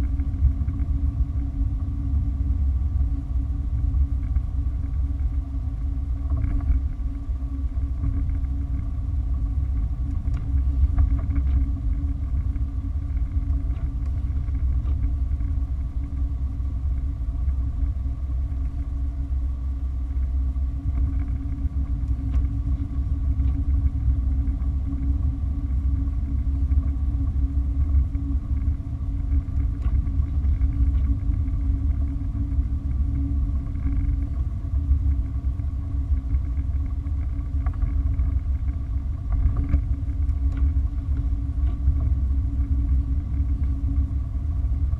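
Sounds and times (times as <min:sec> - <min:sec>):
car road and engine rumble: 0:00.0 - 0:44.9
constant hum: 0:00.0 - 0:44.9.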